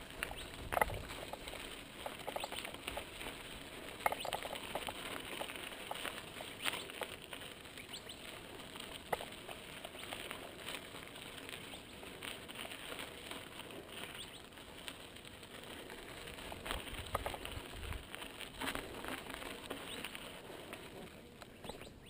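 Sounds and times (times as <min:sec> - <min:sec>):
bike tyres crunching on gravel: 0:00.0 - 0:22.0
grit and stones clicking: 0:00.0 - 0:22.0.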